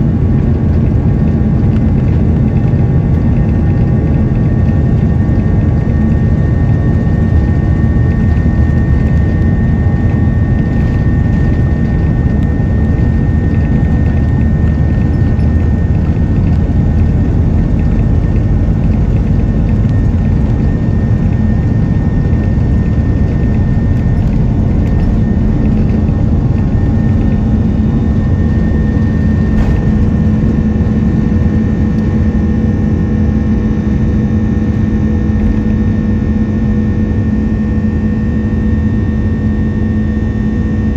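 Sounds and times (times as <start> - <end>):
jet engines roaring: 0.0 - 40.9
whining engine tones: 0.0 - 40.9.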